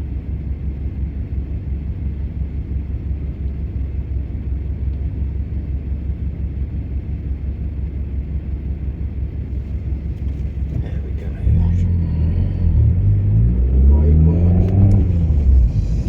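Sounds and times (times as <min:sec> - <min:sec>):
car engine rumble: 0:00.0 - 0:16.0
road noise inside car: 0:00.0 - 0:16.0.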